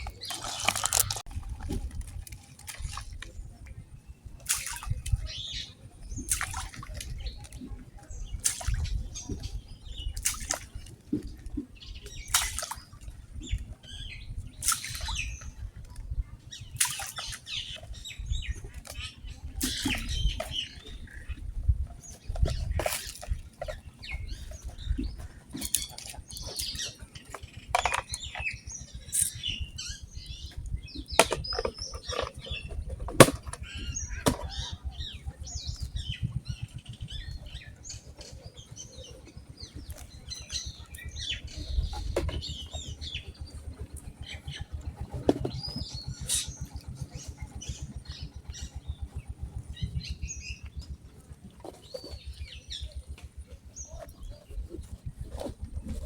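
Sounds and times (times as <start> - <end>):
birds chirping: 0.0 - 56.0
low rumble: 6.9 - 56.0.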